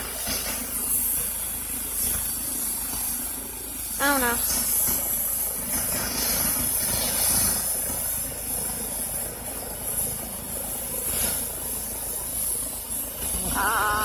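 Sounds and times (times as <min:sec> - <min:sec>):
helicopter turbine whine: 0:00.0 - 0:14.0.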